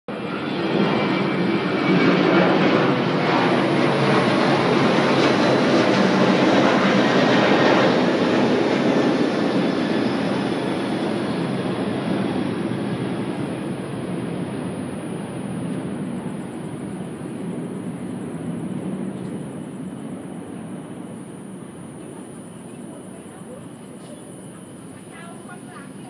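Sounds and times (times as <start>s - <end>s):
aircraft passing overhead: 0.1s - 26.0s.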